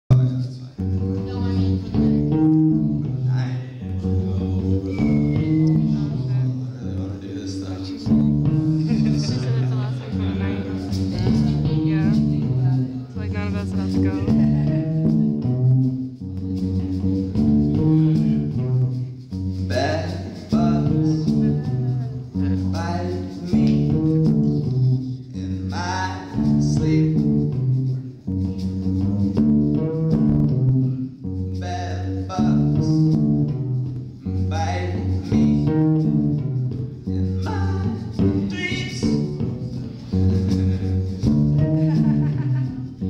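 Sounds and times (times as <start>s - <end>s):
bass guitar riff: 0.1s - 43.0s.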